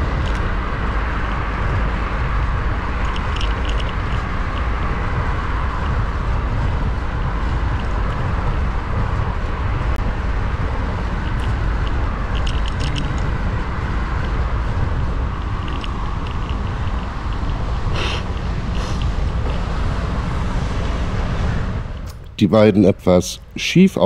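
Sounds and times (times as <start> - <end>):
bicycle tyres rolling: 0.0 - 22.1
wind rumble on microphone: 0.0 - 22.2.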